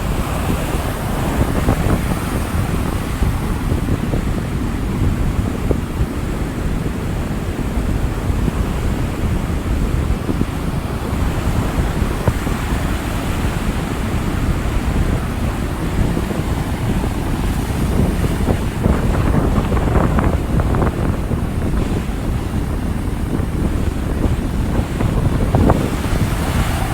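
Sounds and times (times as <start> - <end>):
surf crashing and washing: 0.0 - 26.9
wind rumbling on microphone: 0.0 - 26.9.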